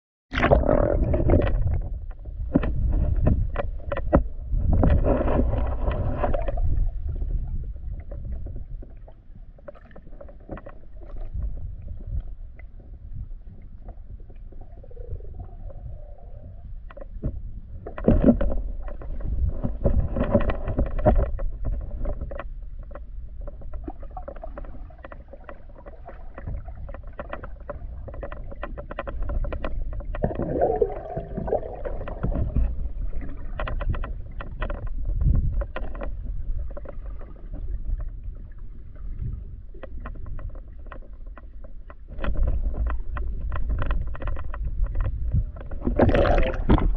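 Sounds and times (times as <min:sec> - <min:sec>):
underwater rumble of water: 0:00.3 - 0:46.9
water gurgle: 0:00.3 - 0:46.9.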